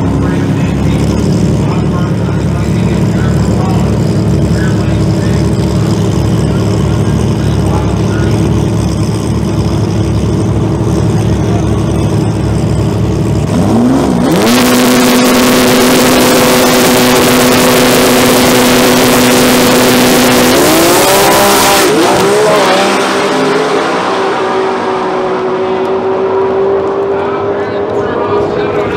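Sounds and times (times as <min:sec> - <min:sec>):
car engine idling and revving: 0:00.0 - 0:28.9
engine crackle: 0:00.0 - 0:28.9.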